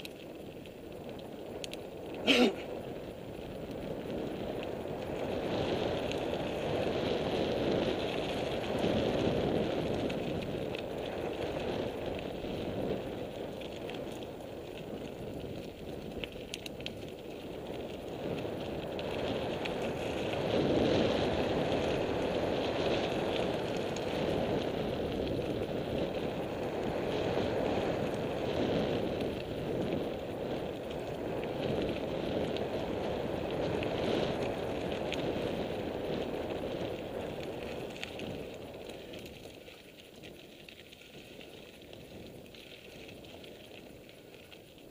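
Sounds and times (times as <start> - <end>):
bike rattling over bumps: 0.0 - 44.9
wind on microphone: 0.0 - 44.9.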